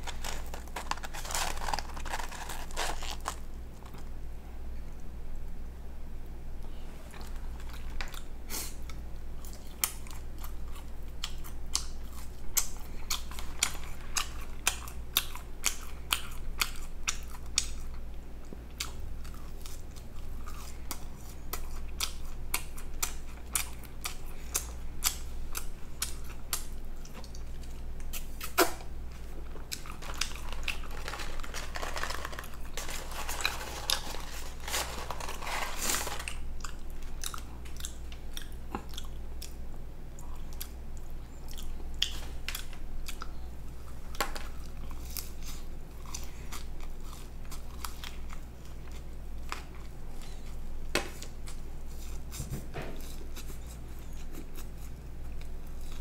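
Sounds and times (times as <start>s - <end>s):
person chewing food: 0.0s - 4.2s, 7.1s - 56.0s.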